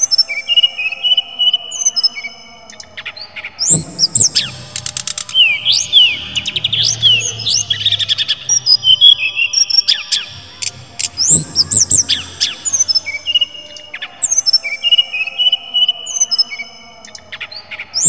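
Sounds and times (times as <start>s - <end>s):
bird singing whistled trills: 0.0s - 18.0s.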